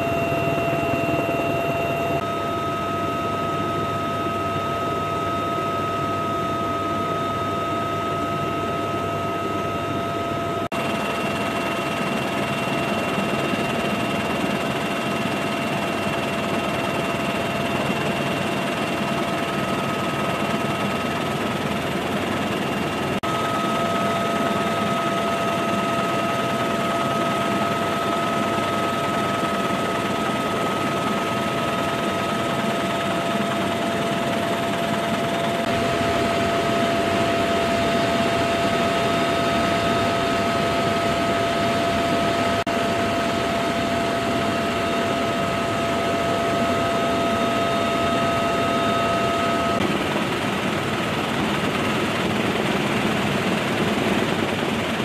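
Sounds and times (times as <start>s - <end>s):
high steady whine: 0.0s - 51.0s
helicopter rotor and turbine: 0.0s - 55.0s.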